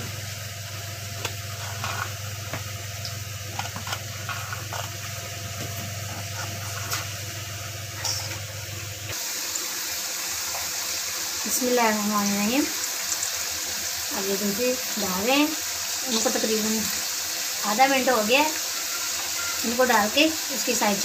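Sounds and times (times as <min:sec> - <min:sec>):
potatoes sizzling in hot fat: 0:00.0 - 0:21.0.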